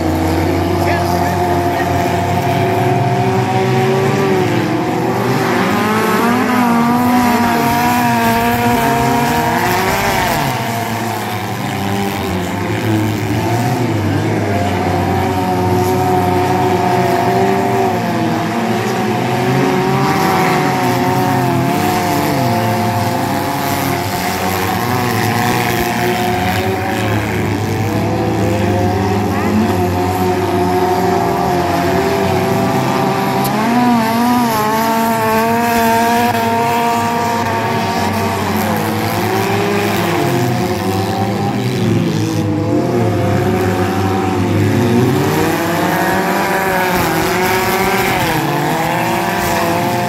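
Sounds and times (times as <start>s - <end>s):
small car engines revving: 0.0s - 50.0s.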